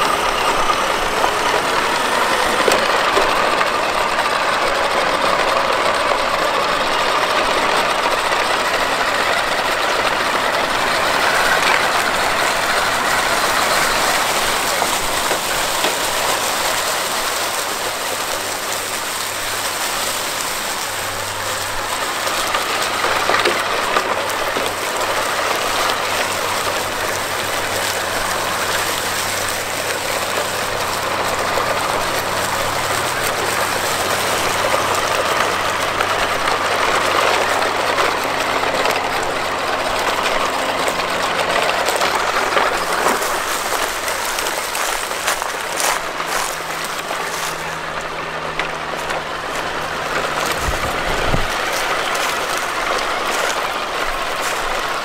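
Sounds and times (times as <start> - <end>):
tyres rolling through dry leaves: 0.0 - 55.0.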